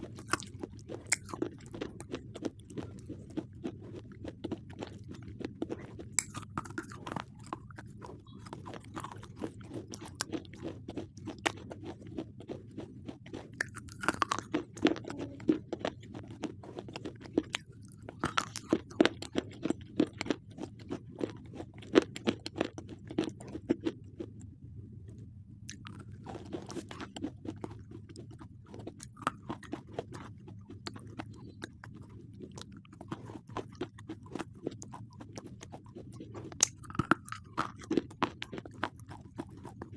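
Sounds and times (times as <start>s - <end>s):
crunching chewing of pencils: 0.0s - 39.9s.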